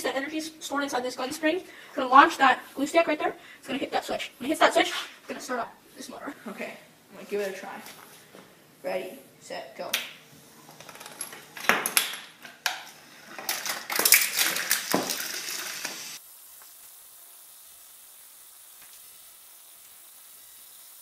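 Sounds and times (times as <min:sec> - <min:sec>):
faint steady hiss: 0:00.0 - 0:10.9, 0:14.6 - 0:21.0.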